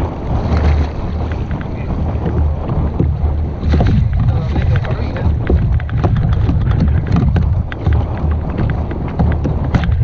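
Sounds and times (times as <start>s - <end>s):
wind buffeting microphone: 0.0s - 10.0s
fish and tackle knocking on kayak: 0.4s - 10.0s.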